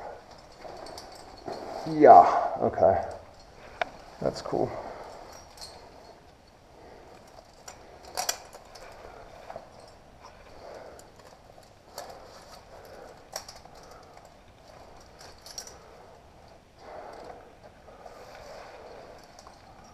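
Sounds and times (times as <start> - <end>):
carabiners clinking: 0.0 - 19.9
clothing rustling against rock: 0.0 - 19.9.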